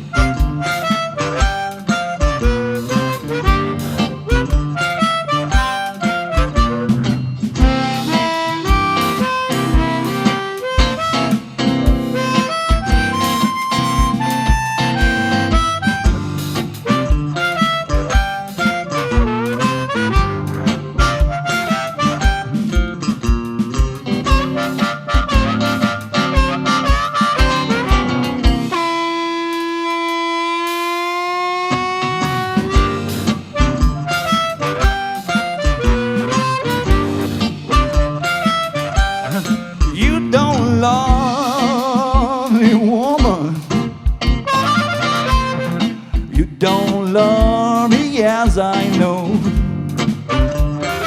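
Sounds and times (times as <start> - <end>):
steady drum beat: 0.0 - 30.2, 31.8 - 51.0
blues band playing: 0.0 - 51.0
guitar: 0.0 - 51.0
harmonica solo: 0.0 - 51.0.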